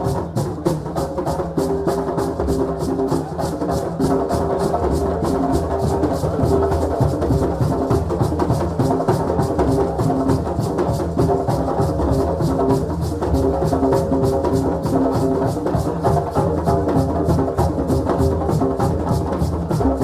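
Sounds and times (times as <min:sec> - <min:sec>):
drums playing fast rhythm: 0:00.0 - 0:20.0.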